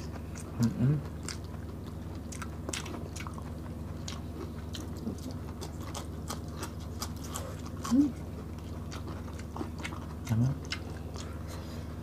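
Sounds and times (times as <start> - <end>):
people chewing vegetables: 0.0 - 12.0.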